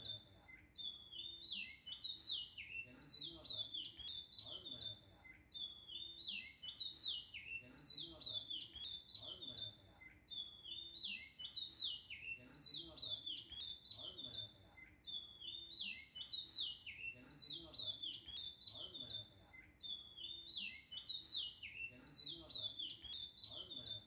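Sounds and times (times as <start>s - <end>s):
faint steady high tone: 0.0s - 24.0s
falling bird-like chirps: 0.0s - 24.0s.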